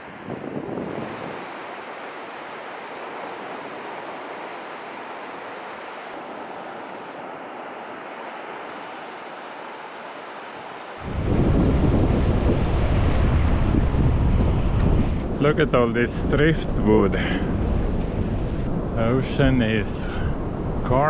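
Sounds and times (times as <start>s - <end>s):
wind buffeting microphone: 0.0s - 7.8s, 8.5s - 21.0s
ocean surf on sandy beach: 0.0s - 21.0s.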